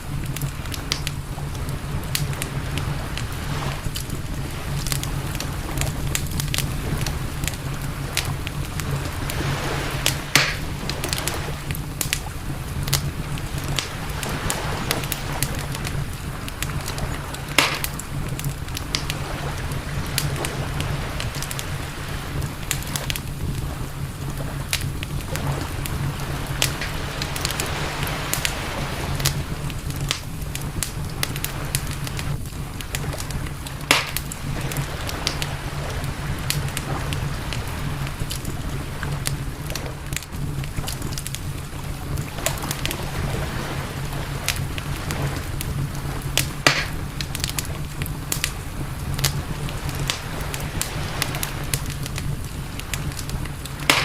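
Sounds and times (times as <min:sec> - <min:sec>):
campfire crackling: 0:00.0 - 0:54.0
low rumble: 0:00.0 - 0:54.0
steady hiss: 0:00.0 - 0:54.0.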